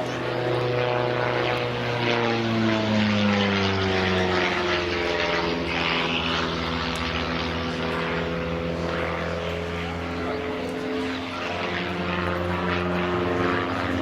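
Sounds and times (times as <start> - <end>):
propeller airplane flying past: 0.0 - 14.0.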